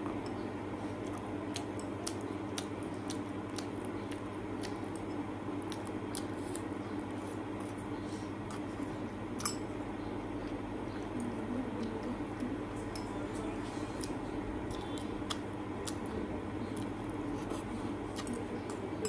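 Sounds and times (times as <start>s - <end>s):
chewing: 0.0s - 19.0s
steady low hum: 0.0s - 19.0s.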